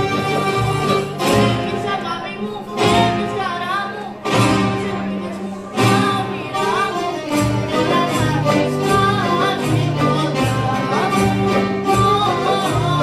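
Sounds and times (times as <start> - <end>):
acoustic string ensemble with accordion: 0.0 - 13.0.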